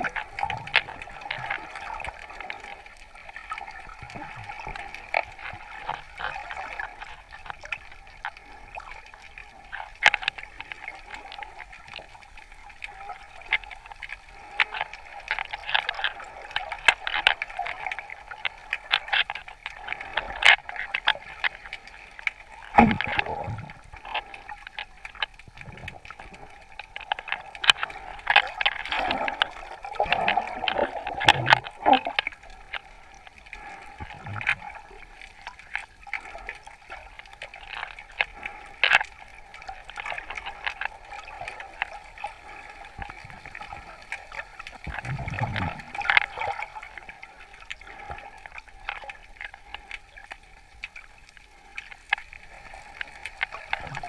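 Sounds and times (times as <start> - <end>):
crackling clicks underwater: 0.0 - 54.0
muffled underwater wash: 0.0 - 54.0
water gurgling: 0.0 - 54.0.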